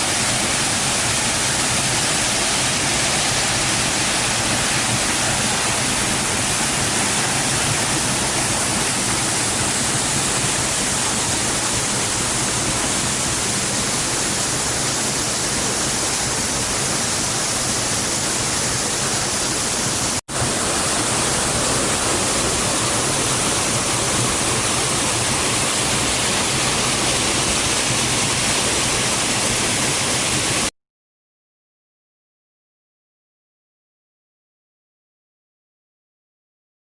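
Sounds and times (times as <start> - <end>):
waterfall rushing: 0.0 - 30.7.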